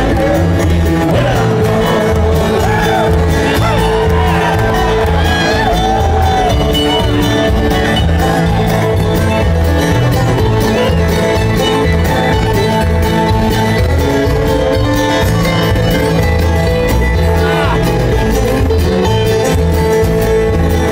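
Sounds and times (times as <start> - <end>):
bluegrass band playing: 0.0 - 20.9
upright bass beat: 0.0 - 20.9.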